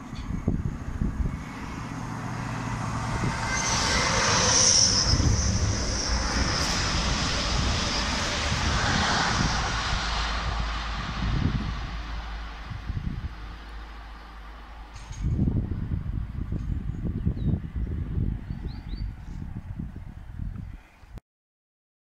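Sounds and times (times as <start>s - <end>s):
high whine: 0.0s - 17.8s
diesel train passing at speed: 0.0s - 20.1s
wind buffeting microphone: 0.0s - 21.2s.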